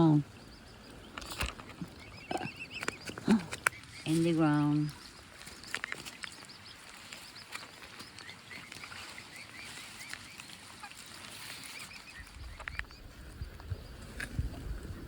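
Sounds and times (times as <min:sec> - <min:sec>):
waterfowl chirping softly: 0:00.0 - 0:14.7.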